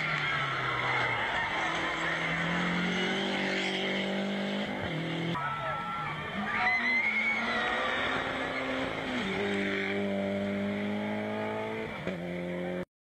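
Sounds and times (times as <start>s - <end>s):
rally car passing at speed: 0.0s - 5.4s, 6.2s - 12.8s.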